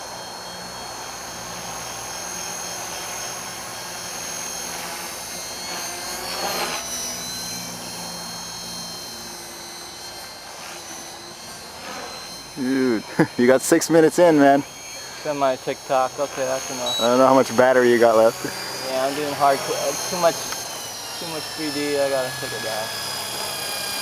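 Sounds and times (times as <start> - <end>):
rc helicopter motor whine: 0.0 - 24.0
rotor hum: 0.0 - 24.0.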